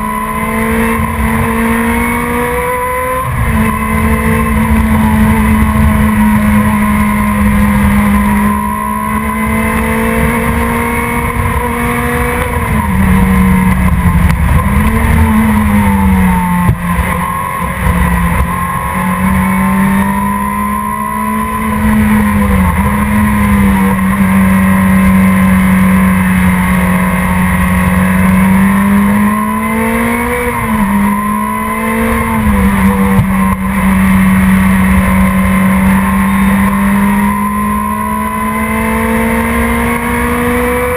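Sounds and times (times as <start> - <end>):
sports car engine at high revs: 0.0 - 40.9.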